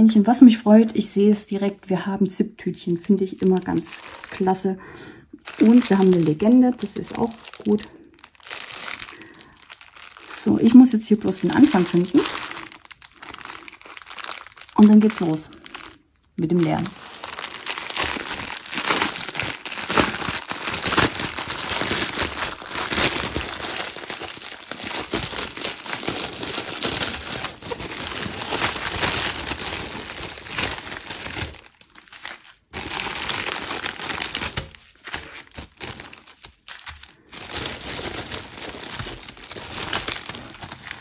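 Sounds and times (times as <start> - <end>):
plastic packaging crinkling: 2.8 - 41.0.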